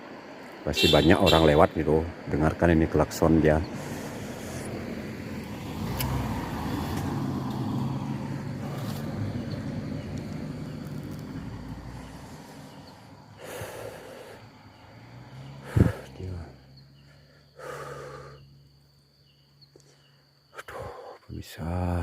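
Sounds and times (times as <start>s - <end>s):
vehicle passing on road: 0.0s - 19.7s.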